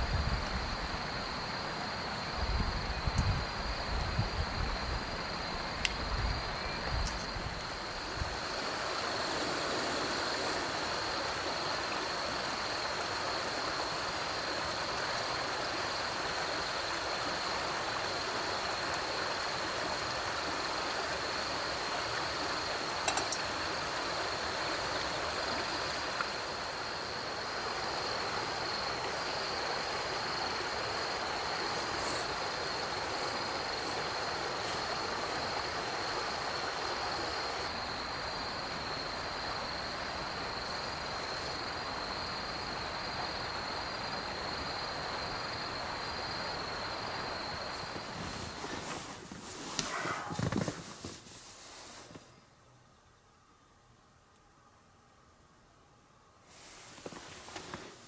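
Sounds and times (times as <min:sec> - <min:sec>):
cricket trill: 0:00.0 - 0:51.1.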